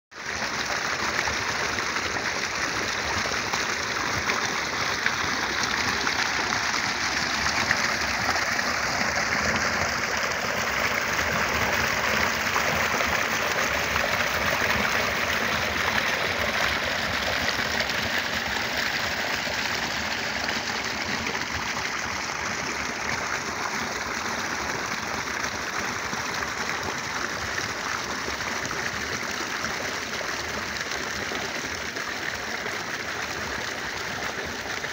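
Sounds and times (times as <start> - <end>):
water gushing from pipe: 0.2 - 34.9.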